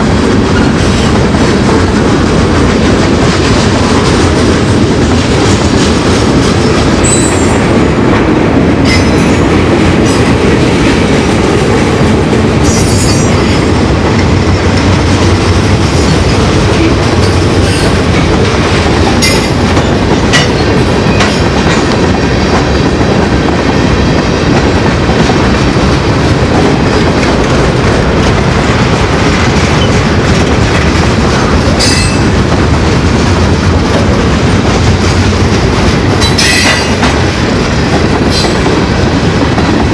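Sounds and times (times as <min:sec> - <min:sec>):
clickety-clack over rail joints: 0:00.0 - 0:39.9
train wheels rumbling: 0:00.0 - 0:39.9.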